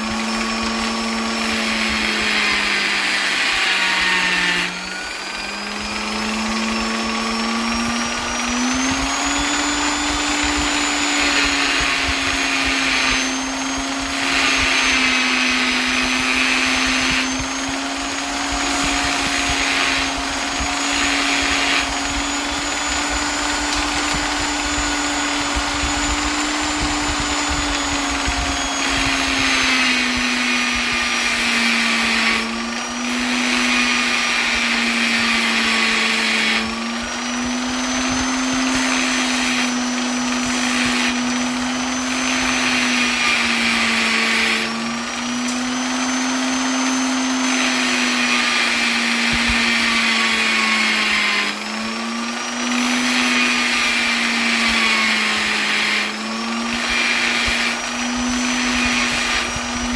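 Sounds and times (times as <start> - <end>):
electric polisher motor whine: 0.0 - 59.9.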